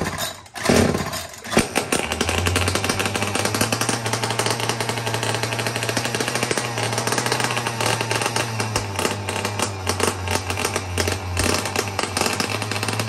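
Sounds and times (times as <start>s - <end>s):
two-stroke engine crackling: 0.0s - 13.0s.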